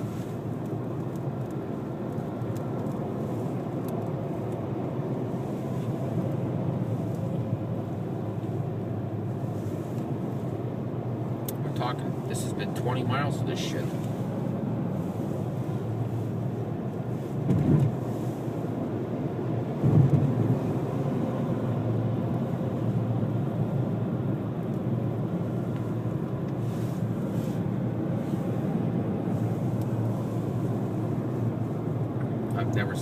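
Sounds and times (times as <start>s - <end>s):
road and wind noise in car: 0.0s - 33.0s.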